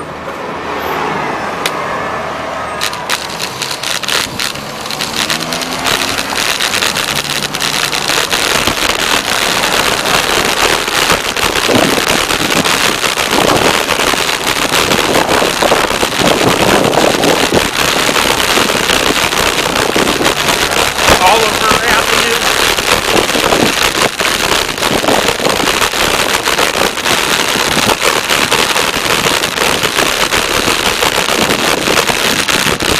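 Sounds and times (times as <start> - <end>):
bicycle road noise: 0.0 - 32.9
dense crackling clicks: 2.8 - 32.9
wind rushing over microphone: 2.8 - 32.9.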